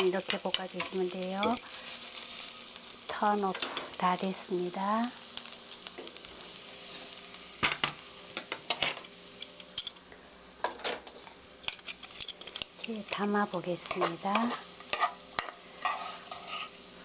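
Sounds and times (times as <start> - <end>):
onions sizzling in frying pan: 0.0 - 17.0.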